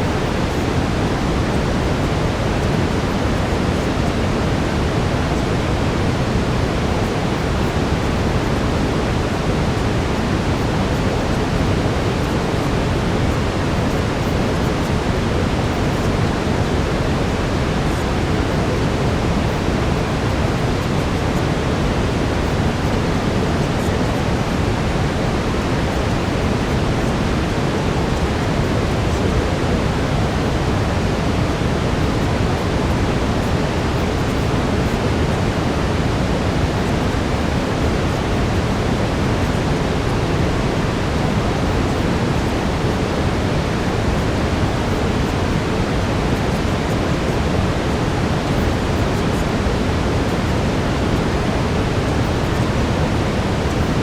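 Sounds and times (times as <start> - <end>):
brown noise: 0.0 - 54.0.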